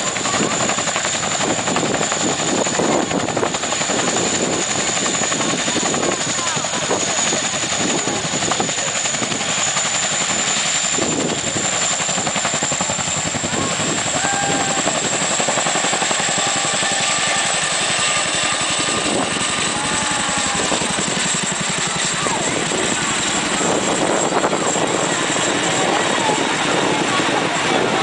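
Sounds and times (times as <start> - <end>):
helicopter rotors chopping: 0.0 - 28.0
turbine engine whine: 0.0 - 28.0.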